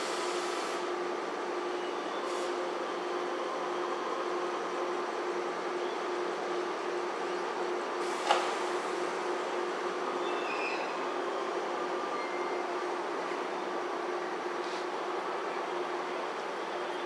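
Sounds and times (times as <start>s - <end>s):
electric train hum and hiss: 0.0s - 17.0s.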